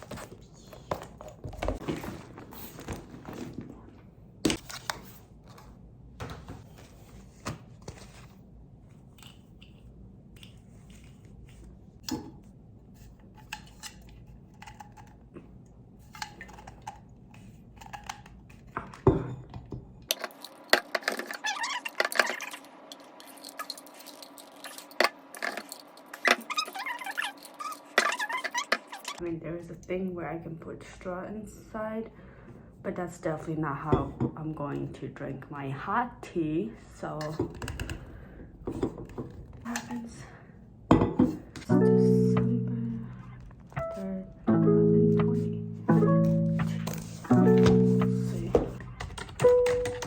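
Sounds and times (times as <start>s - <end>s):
low background hum: 0.0s - 50.0s.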